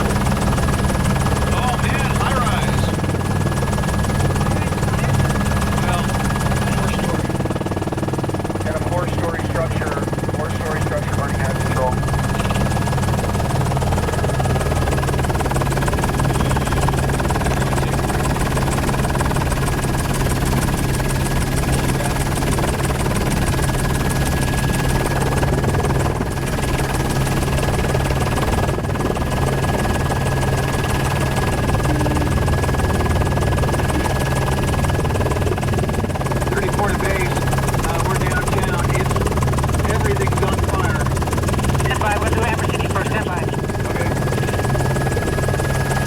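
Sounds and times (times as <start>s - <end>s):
helicopter rotor and engine drone: 0.0s - 46.0s.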